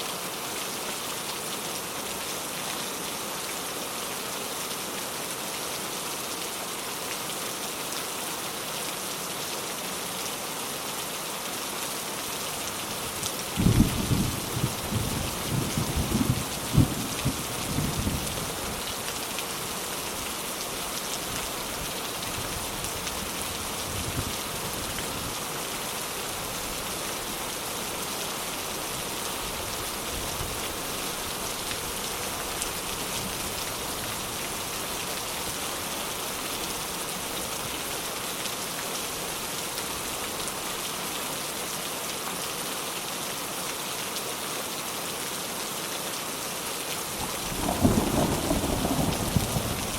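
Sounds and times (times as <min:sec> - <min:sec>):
rain on leaves and ground: 0:00.0 - 0:49.9.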